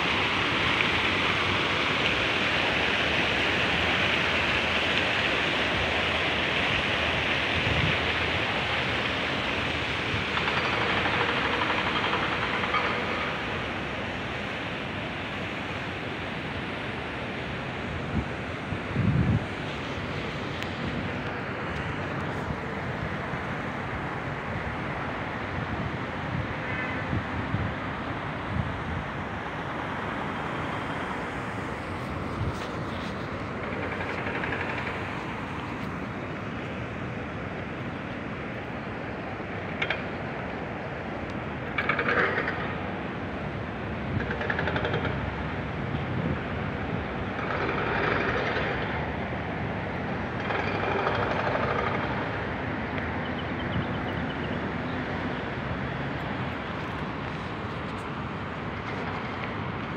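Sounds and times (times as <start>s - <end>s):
outdoor background rush: 0.0s - 59.9s.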